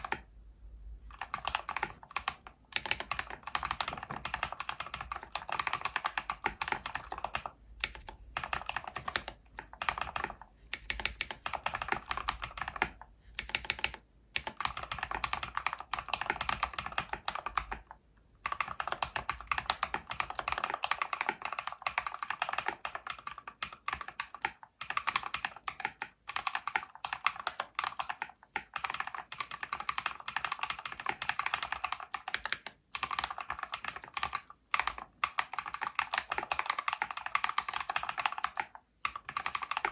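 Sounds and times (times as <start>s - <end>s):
mechanical keyboard typing: 0.0s - 0.3s, 1.1s - 39.9s.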